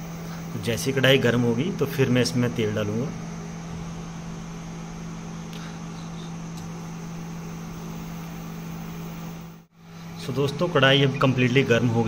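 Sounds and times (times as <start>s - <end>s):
cooling fan whirring: 0.0s - 12.0s
induction cooktop humming: 0.0s - 12.0s.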